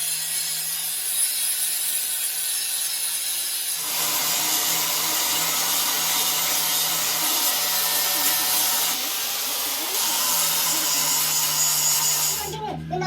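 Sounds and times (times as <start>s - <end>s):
power tool humming and hissing: 0.0s - 12.7s.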